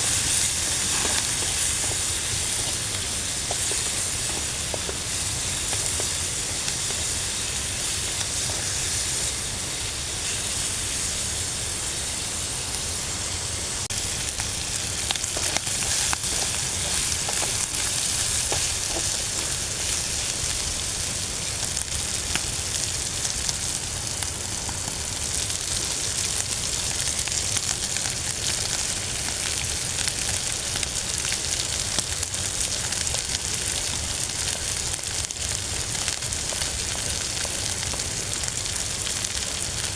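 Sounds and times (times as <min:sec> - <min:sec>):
food sizzling as it fries: 0:00.0 - 0:39.9.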